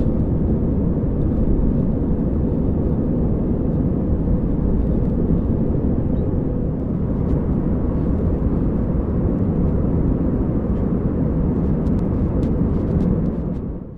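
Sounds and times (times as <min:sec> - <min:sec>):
faint steady hum: 0:00.0 - 0:13.9
jet engine cabin rush: 0:00.0 - 0:13.9.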